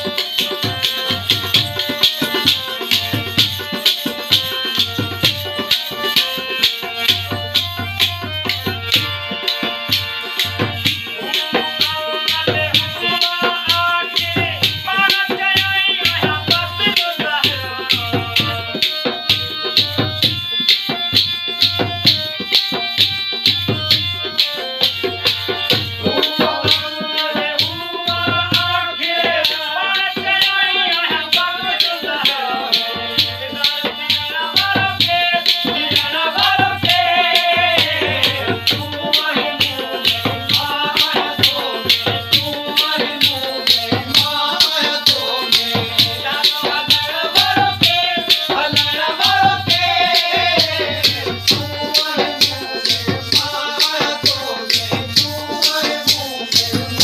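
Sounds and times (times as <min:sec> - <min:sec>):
harmonium melody: 0:00.0 - 0:57.0.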